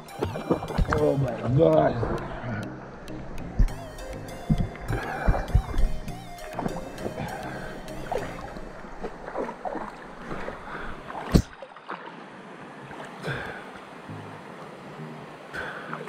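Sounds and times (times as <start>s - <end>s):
stream water splashing: 0.0s - 16.0s.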